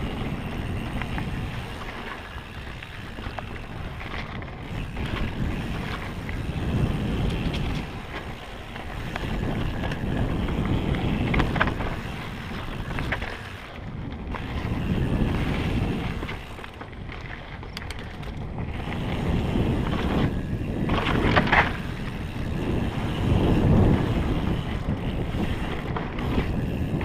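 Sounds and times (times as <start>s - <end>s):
bike clicks and rattles: 0.0s - 27.0s
tyres rolling on dirt: 0.0s - 27.0s
wind rushing over microphone: 0.0s - 27.0s.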